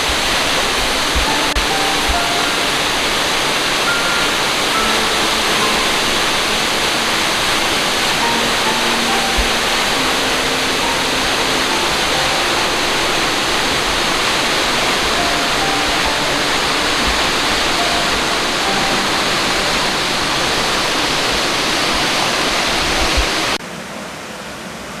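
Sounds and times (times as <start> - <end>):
waterfall rushing: 0.0 - 23.6.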